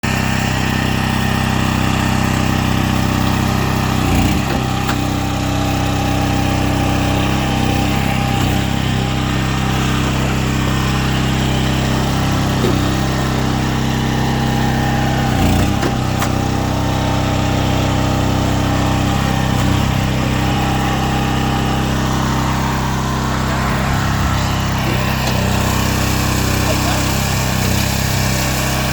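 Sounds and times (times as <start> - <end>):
small engine running: 0.0 - 28.9.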